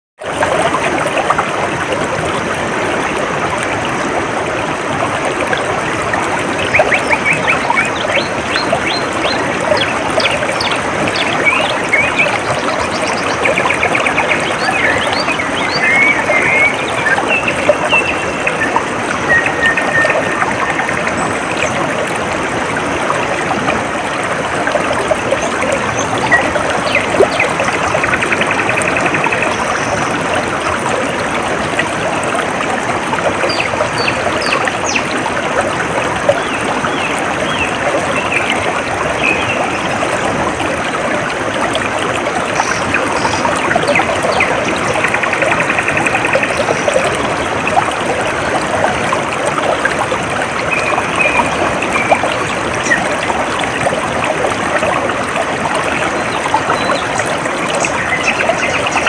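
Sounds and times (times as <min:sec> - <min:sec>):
water trickling: 0:00.2 - 0:59.0.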